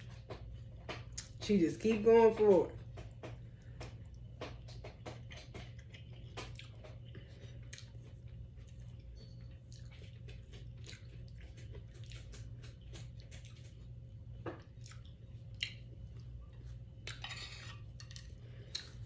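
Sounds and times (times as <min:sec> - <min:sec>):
steady low hum: 0:00.0 - 0:19.0
chewing: 0:03.4 - 0:19.0.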